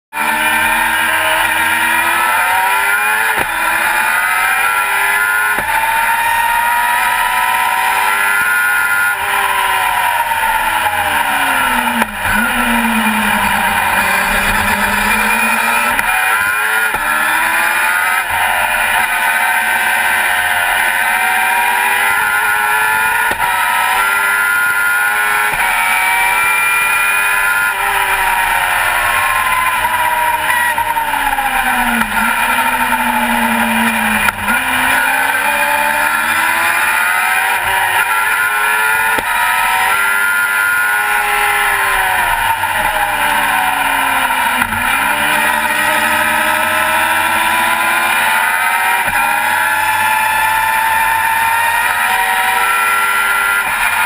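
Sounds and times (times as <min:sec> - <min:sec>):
race car engine revving: 0:00.1 - 0:54.0.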